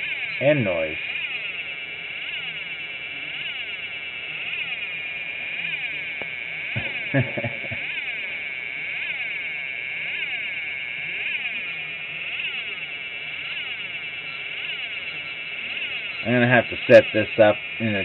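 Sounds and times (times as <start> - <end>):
electronic tones buzzing and chirping: 0.0 - 18.0.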